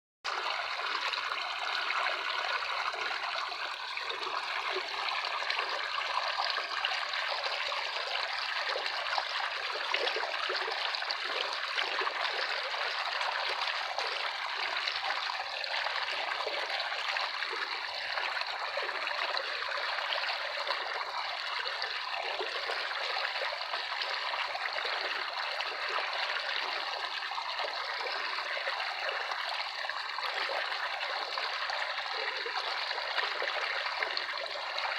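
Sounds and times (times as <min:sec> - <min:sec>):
stream trickling and babbling: 0:00.3 - 0:34.9.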